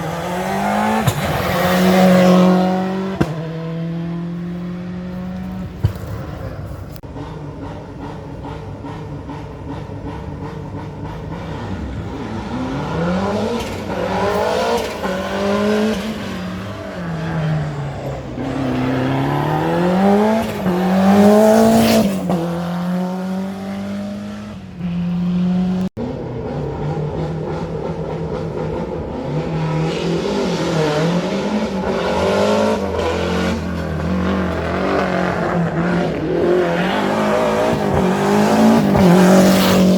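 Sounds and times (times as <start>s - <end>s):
car accelerating: 0.0s - 39.9s
rally car engines revving: 0.0s - 39.9s.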